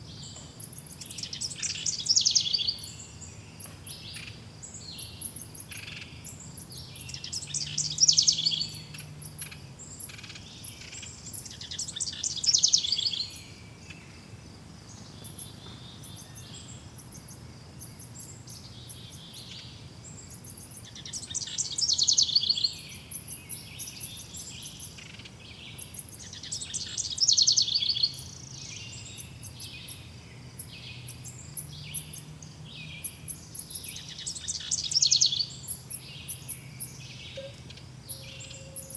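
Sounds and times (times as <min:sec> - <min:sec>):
bird trilled song: 0:00.1 - 0:14.1, 0:15.0 - 0:38.9.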